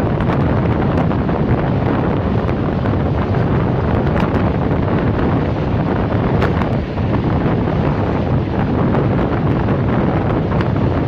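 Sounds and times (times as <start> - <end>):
train running noise: 0.0 - 11.0
wind buffeting microphone: 0.0 - 11.0.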